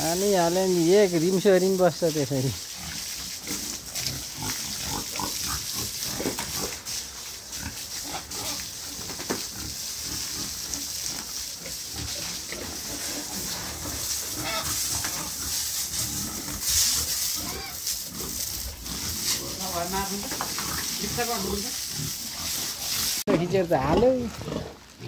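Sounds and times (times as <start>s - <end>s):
pigs grunting: 2.6s - 25.0s.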